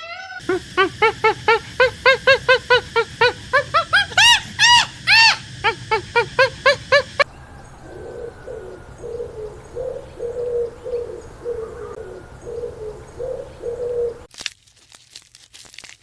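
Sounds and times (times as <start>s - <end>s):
pigeon cooing: 0.0s - 14.3s.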